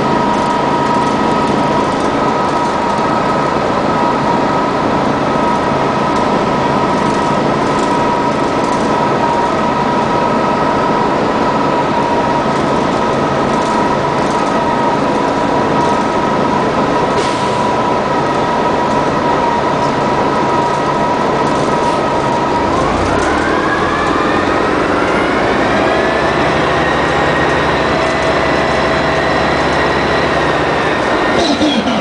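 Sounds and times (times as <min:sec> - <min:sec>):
bus drivetrain whine: 0:00.0 - 0:32.0
bus engine low rumble: 0:00.0 - 0:32.0.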